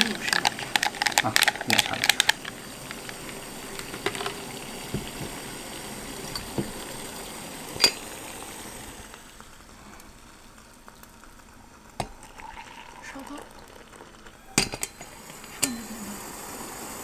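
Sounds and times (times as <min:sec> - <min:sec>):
water boiling in a saucepan: 0:00.0 - 0:17.0.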